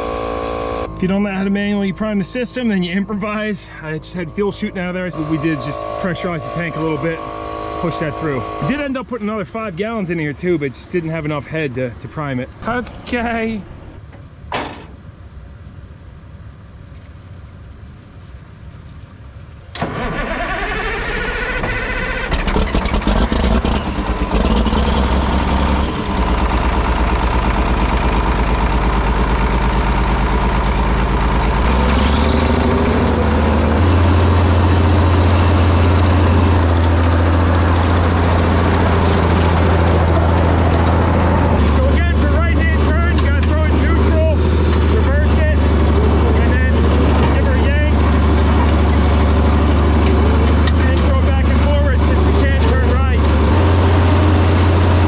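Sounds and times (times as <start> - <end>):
diesel engine cranking: 0.0 - 15.2, 19.6 - 55.0
diesel engine running: 0.0 - 55.0.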